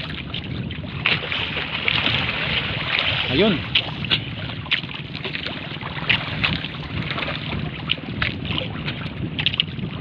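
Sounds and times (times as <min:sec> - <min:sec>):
water splashing against boat: 0:00.0 - 0:10.0
wind buffeting microphone: 0:00.0 - 0:10.0
sharp splashes or knocks: 0:01.0 - 0:09.7.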